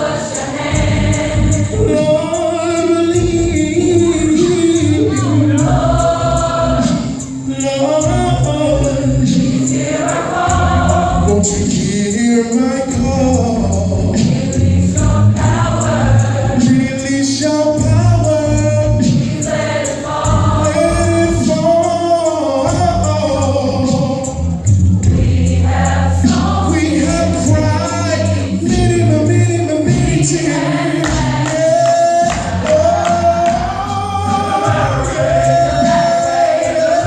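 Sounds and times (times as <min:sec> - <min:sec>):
gospel choir singing: 0:00.0 - 0:37.0
instrumental accompaniment with bass: 0:00.0 - 0:37.0.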